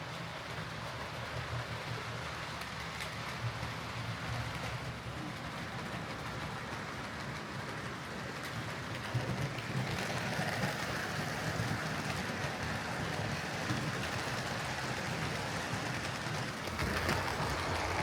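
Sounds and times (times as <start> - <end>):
model train rumble and hiss: 0.0 - 18.0.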